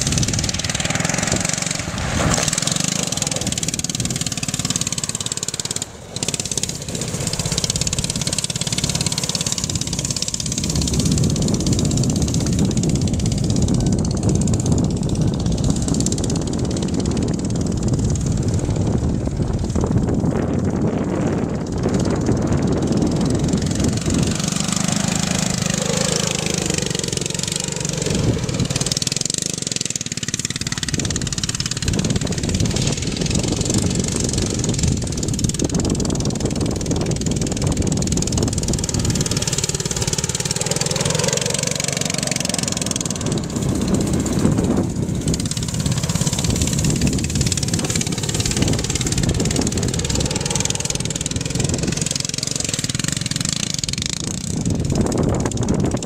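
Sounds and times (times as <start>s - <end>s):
rc truck engine revving: 0.0s - 56.0s.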